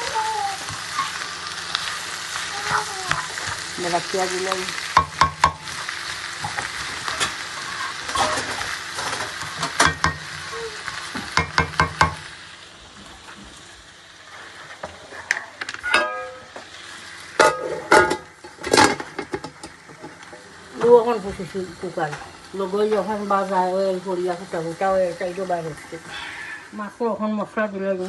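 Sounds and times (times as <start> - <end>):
onions frying in oil: 0.0 - 28.0.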